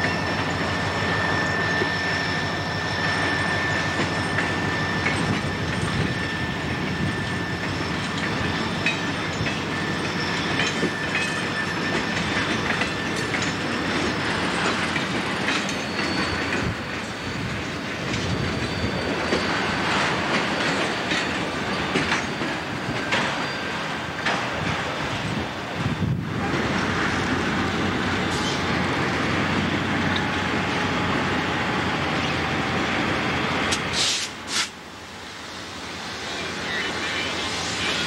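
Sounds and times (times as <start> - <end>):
train wheels clicking on rail joints: 0.0 - 34.9
train wheels squealing: 0.0 - 38.0.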